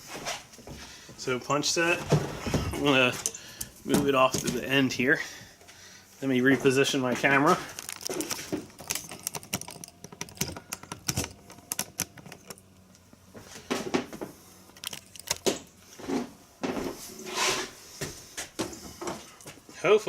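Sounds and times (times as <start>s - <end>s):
handling rustles: 1.9s - 19.7s.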